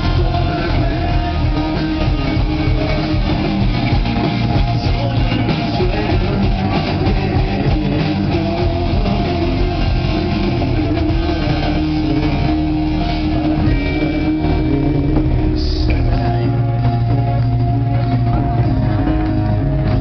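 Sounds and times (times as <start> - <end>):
electric guitar: 0.0 - 20.0
rock band playing live: 0.0 - 20.0.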